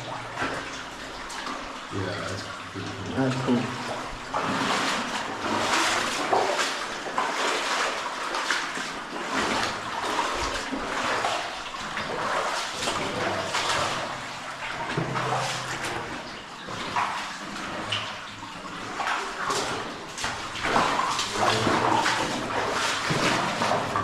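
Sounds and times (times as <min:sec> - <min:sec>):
footsteps splashing through water: 0:00.0 - 0:24.0.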